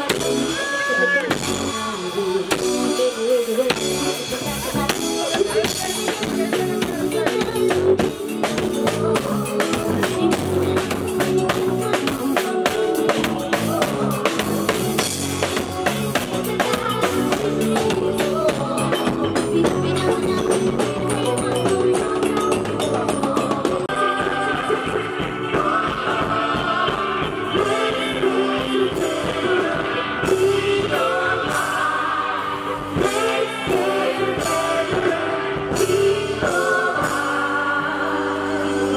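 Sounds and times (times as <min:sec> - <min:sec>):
drum kit beat: 0:00.0 - 0:38.9
person singing: 0:00.0 - 0:38.9.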